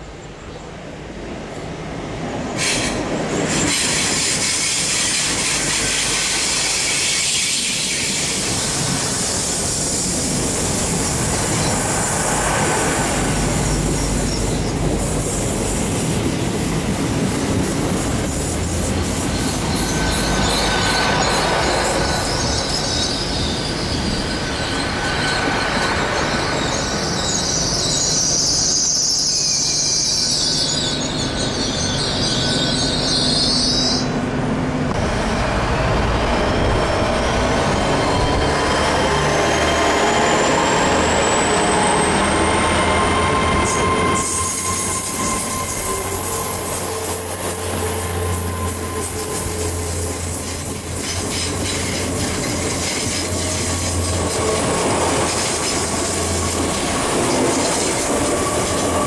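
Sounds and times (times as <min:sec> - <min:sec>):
train coaches rumbling past: 0:00.0 - 0:59.0
high train wheel squeal: 0:02.5 - 0:59.0.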